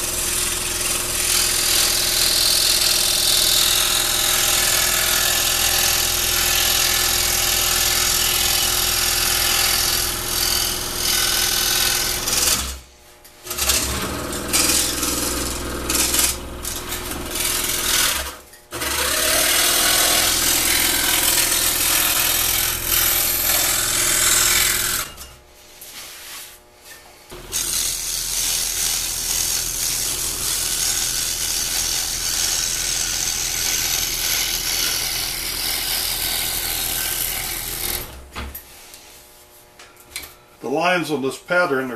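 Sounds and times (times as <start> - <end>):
scroll saw cutting wood: 0.0 - 12.8, 13.5 - 25.2, 27.3 - 38.2.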